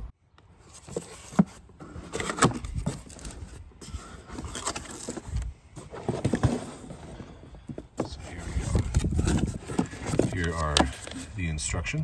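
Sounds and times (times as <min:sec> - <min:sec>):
cardboard rustling and scraping: 0:00.6 - 0:11.5.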